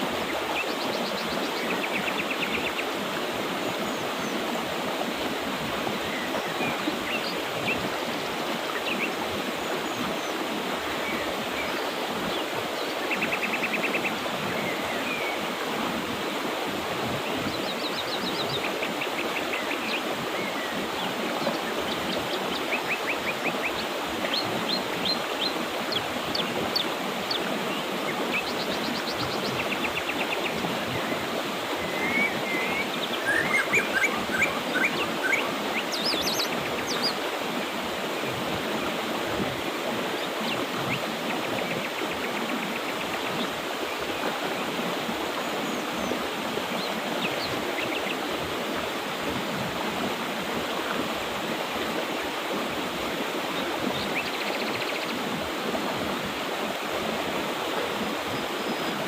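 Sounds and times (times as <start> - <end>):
small birds trilling and chirping: 0.0 - 49.0, 51.4 - 55.5
river rushing: 0.0 - 59.0.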